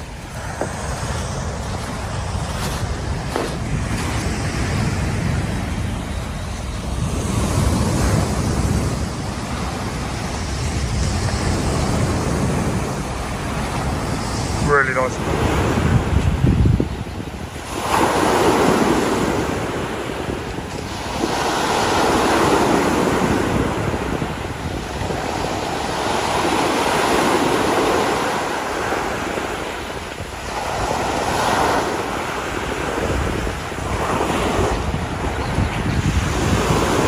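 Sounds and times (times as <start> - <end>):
small waves breaking on a beach: 0.0 - 37.0
wind buffeting microphone: 0.0 - 37.0.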